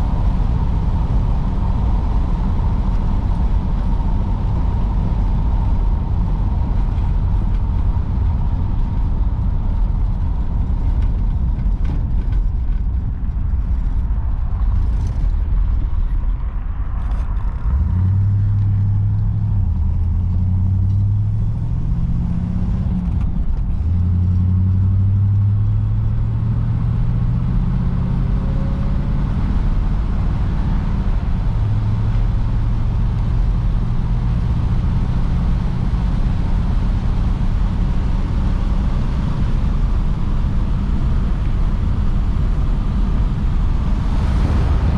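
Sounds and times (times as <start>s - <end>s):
car engine running: 0.0s - 44.9s
low road rumble: 0.0s - 44.9s.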